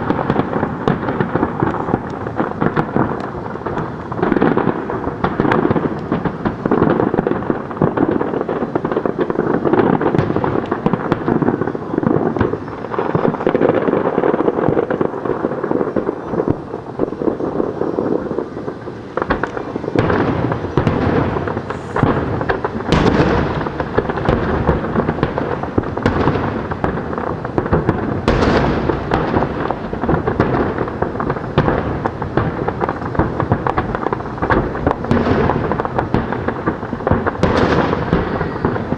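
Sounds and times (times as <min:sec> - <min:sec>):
firework shells bursting: 0:00.0 - 0:38.9
heavy firework booms: 0:00.0 - 0:38.9.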